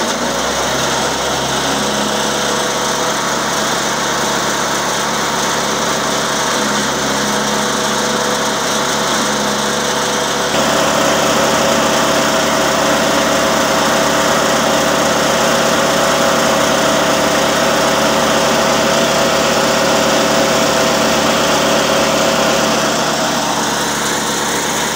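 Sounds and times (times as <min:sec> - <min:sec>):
small petrol engine of branch chipper: 0:00.0 - 0:24.9.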